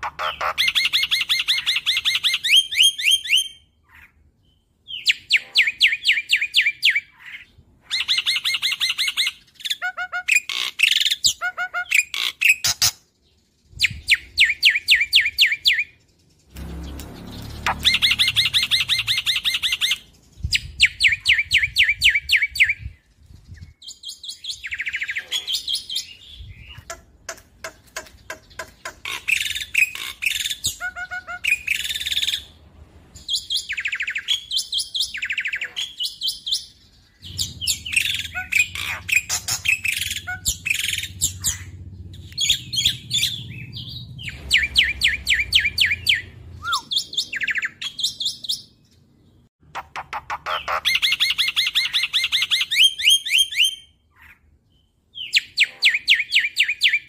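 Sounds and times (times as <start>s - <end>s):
bird singing chattering notes: 0.0s - 3.5s, 4.9s - 32.5s, 33.4s - 49.0s, 49.6s - 53.8s.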